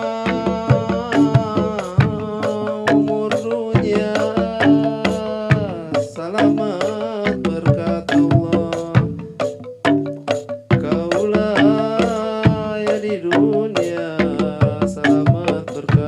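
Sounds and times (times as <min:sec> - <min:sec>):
drums in a quick rhythm: 0:00.0 - 0:16.0
sliding held melody line: 0:00.0 - 0:16.0.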